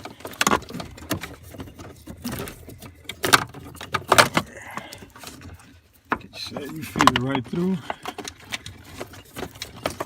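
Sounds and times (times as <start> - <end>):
wiring harness rattling and clicking: 0.0 - 10.0.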